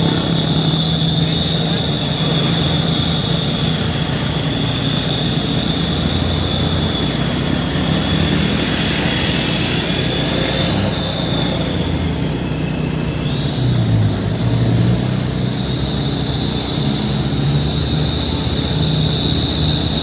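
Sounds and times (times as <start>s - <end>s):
high steady whine: 0.0s - 20.0s
truck engine drone: 0.0s - 20.0s.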